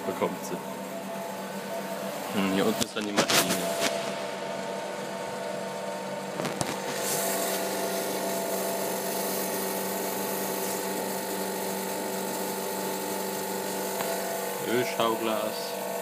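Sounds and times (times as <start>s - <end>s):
refrigeration compressor humming: 0.0s - 16.0s.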